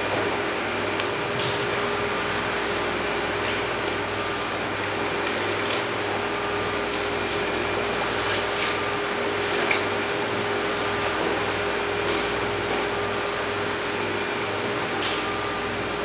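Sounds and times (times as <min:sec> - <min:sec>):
low machinery drone: 0:00.0 - 0:16.0.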